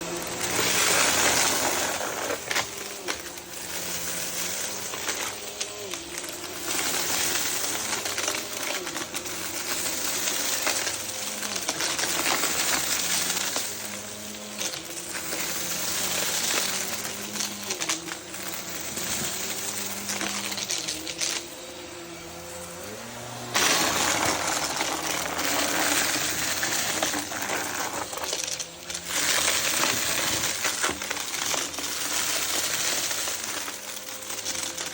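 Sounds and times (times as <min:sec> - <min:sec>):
debris rattling through vacuum: 0:00.0 - 0:34.9
vacuum cleaner running: 0:00.0 - 0:34.9.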